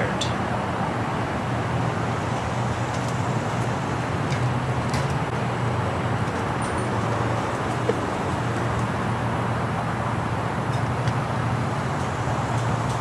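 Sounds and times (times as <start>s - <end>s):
distant traffic rumble and hiss: 0.0s - 13.0s.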